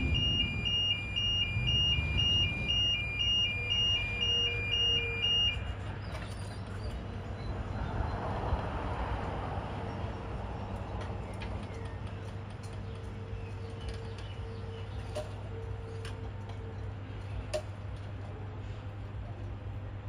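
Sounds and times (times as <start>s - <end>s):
electric train hum: 0.0s - 20.0s.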